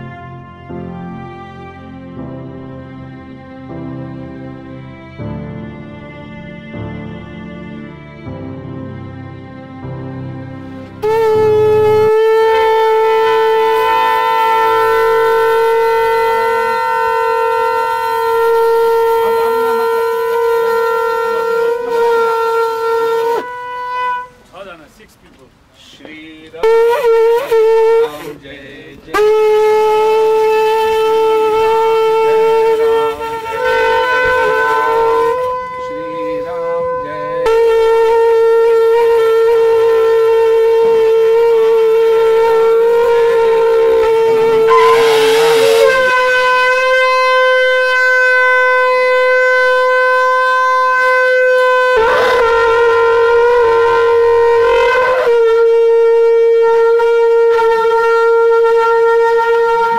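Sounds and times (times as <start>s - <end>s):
conch shell blown in long notes: 0.0s - 2.6s, 10.6s - 24.5s, 26.6s - 28.3s, 29.1s - 59.9s.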